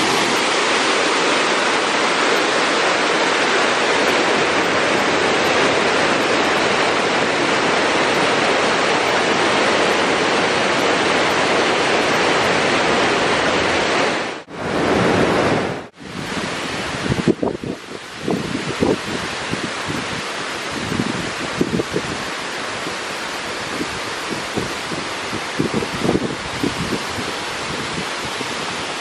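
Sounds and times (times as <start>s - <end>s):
waterfall rushing: 0.0s - 29.0s
wind buffeting microphone: 0.0s - 29.0s.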